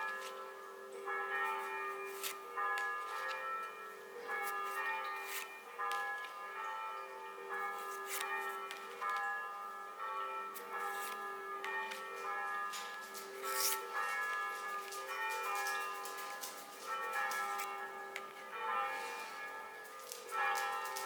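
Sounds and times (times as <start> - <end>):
bell-like chiming music: 0.0 - 21.0.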